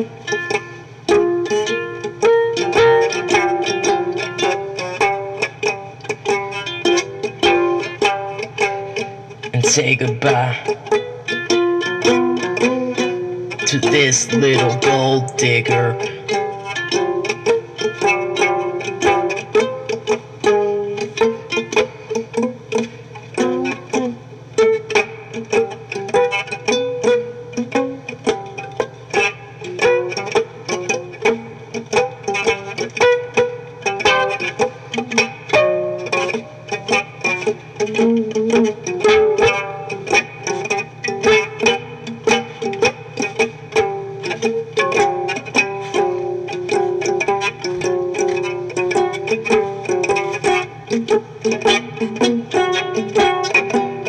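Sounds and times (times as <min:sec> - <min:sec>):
plucked string instrument: 0:00.0 - 0:54.0.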